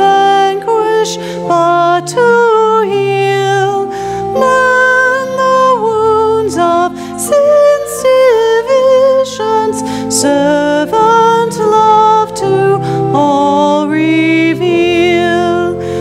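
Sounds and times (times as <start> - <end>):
piano accompaniment: 0.0 - 16.0
woman singing a hymn: 0.0 - 16.0.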